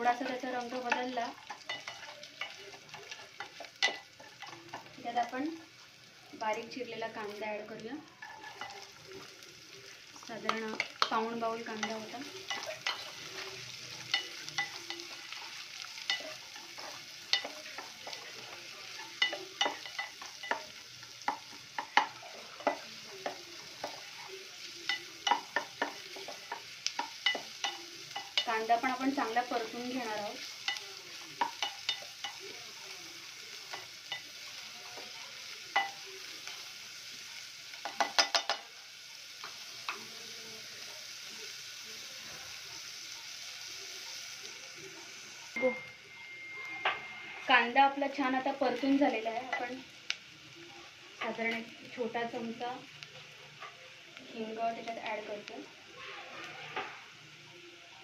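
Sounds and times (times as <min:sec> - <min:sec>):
onion sizzling in hot oil: 0:00.0 - 0:58.0.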